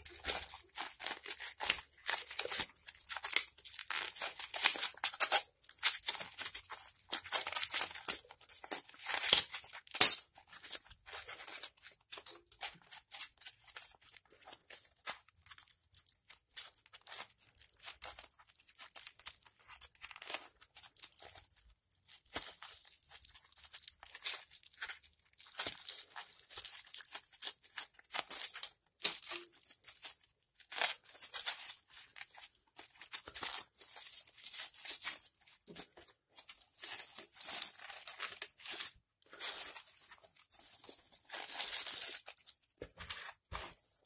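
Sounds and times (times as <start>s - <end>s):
foil crinkling and tearing: 0.0s - 44.0s.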